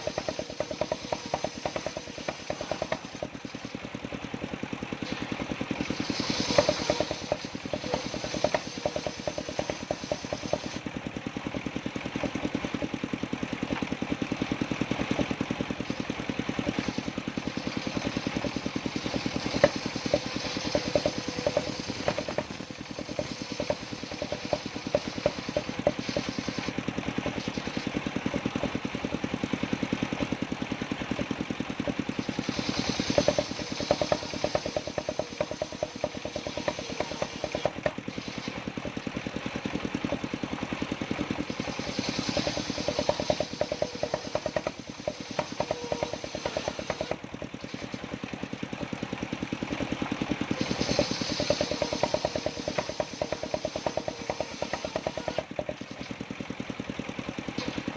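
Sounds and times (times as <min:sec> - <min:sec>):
circular saw cutting wood: 0:00.0 - 0:11.6, 0:14.6 - 0:48.8, 0:50.0 - 0:56.2
sawmill engine running: 0:00.0 - 0:57.9.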